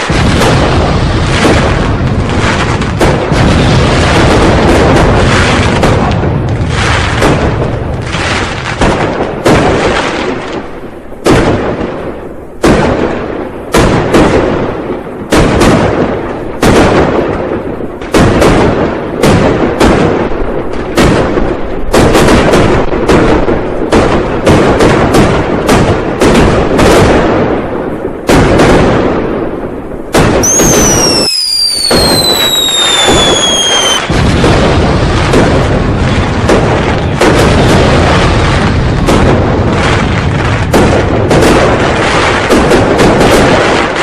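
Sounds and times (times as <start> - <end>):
firecrackers and fireworks banging: 0.0 - 44.0.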